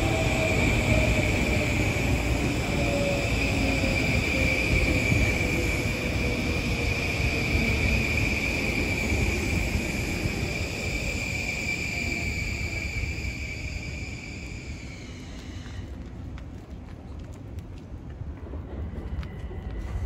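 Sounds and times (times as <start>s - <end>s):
electric train running past: 0.0s - 16.5s, 18.2s - 20.0s
high whine of train: 0.0s - 20.0s.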